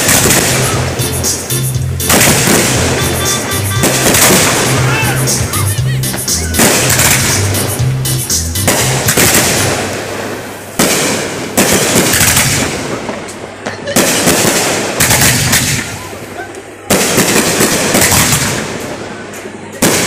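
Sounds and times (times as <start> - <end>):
fireworks crackling bangs: 0.0 - 20.0.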